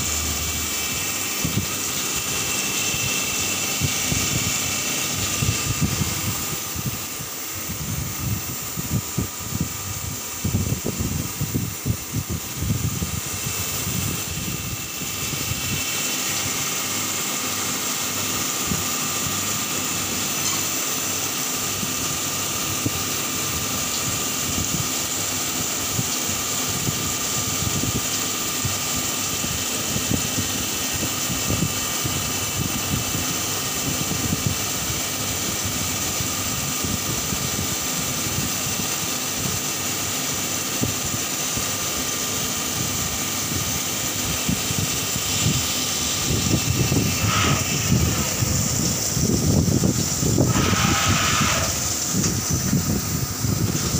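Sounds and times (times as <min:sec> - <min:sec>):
coolant spray hissing: 0:00.0 - 0:53.9
machine running noise: 0:00.0 - 0:53.9.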